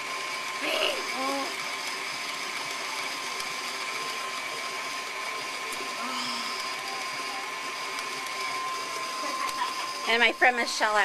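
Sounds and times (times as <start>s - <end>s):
stand mixer whining: 0.0s - 11.0s.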